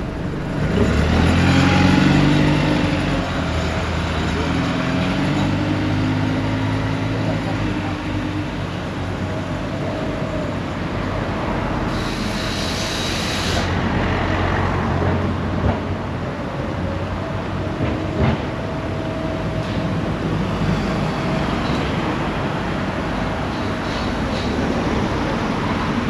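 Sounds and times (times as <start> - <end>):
diesel train engine hum: 0.0 - 26.0
train rushing noise: 0.0 - 26.0.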